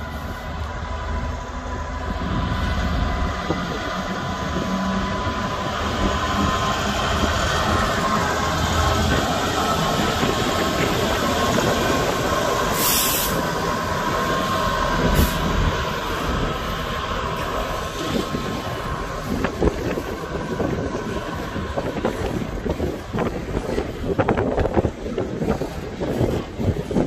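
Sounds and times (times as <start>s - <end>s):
diesel locomotive engine whine: 0.0s - 27.0s.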